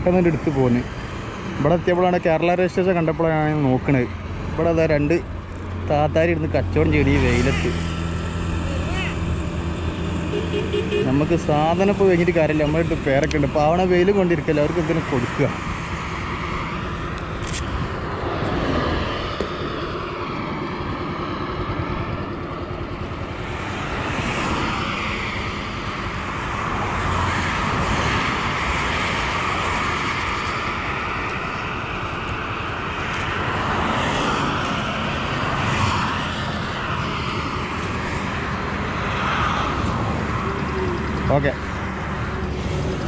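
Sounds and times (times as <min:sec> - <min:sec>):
highway traffic passing: 0:00.0 - 0:43.0.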